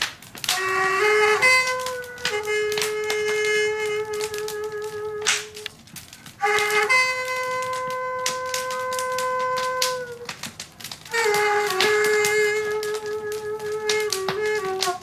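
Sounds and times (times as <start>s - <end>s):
bamboo flute long notes: 0.0s - 15.0s.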